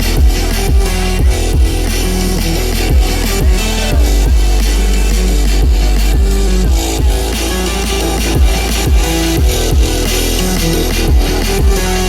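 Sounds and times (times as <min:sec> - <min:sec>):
electronic bass music: 0:00.0 - 0:12.0.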